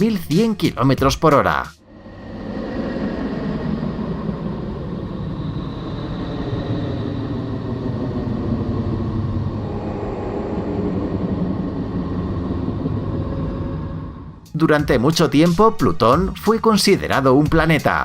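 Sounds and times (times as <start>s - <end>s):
steady low drone: 0.0s - 17.6s.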